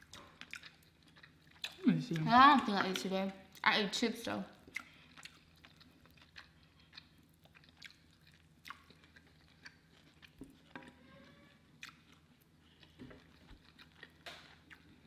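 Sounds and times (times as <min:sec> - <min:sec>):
close-up chewing: 0:00.0 - 0:03.7, 0:04.5 - 0:15.0
low room hum: 0:00.0 - 0:15.0.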